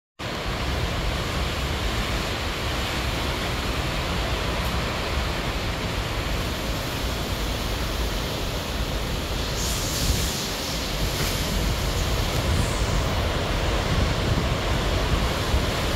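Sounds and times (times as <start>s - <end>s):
hurricane wind and rain: 0.2s - 15.9s.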